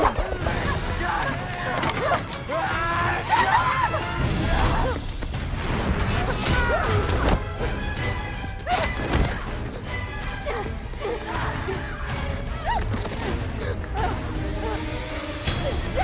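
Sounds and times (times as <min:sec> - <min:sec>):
dramatic film score: 0:00.0 - 0:16.0.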